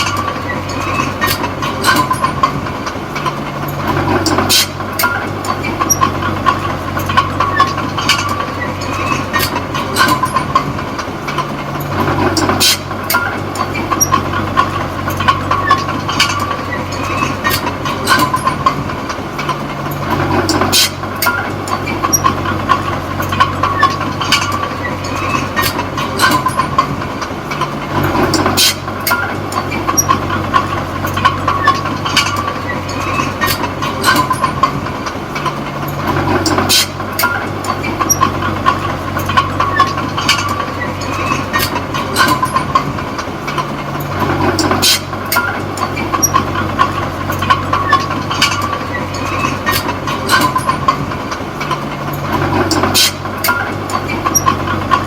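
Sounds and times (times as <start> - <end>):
bulldozer diesel engine: 0.0 - 55.0
metal clanks from tracks: 0.0 - 55.0.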